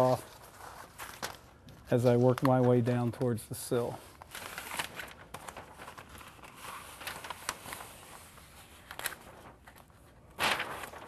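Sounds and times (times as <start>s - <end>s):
tape crackling: 0.0s - 3.4s, 4.2s - 11.0s.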